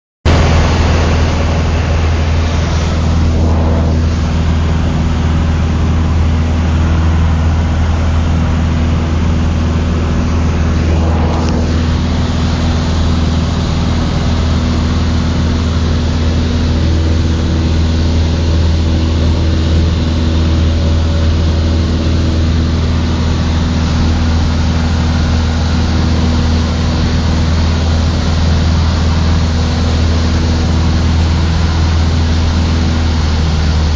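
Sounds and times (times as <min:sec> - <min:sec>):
light aircraft engine and propeller: 0:00.3 - 0:33.9.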